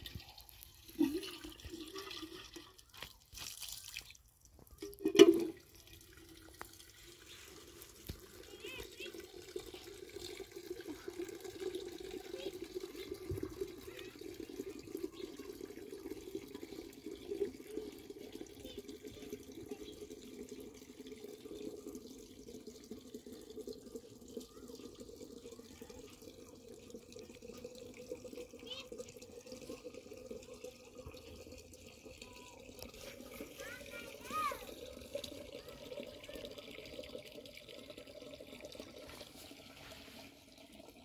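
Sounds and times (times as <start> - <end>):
running water: 0.0 - 41.0.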